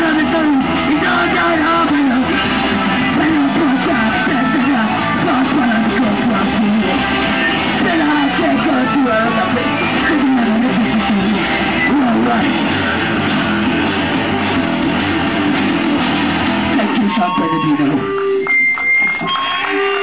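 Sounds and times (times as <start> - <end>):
distorted electric guitar: 0.0 - 20.0
drums: 0.0 - 20.0.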